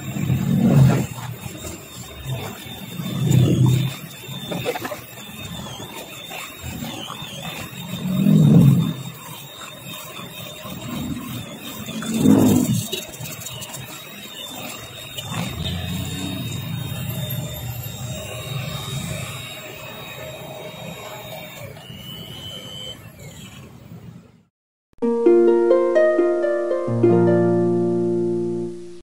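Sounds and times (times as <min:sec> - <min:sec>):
electric mixer whining: 0:00.0 - 0:24.1.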